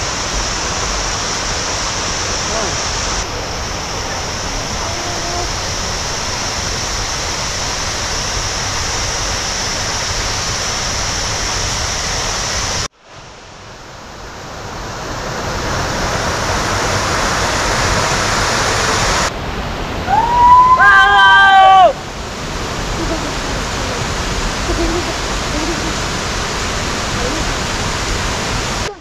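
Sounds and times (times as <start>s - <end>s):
rushing hiss: 0.0s - 29.0s
small waterfall splashing: 0.0s - 29.0s.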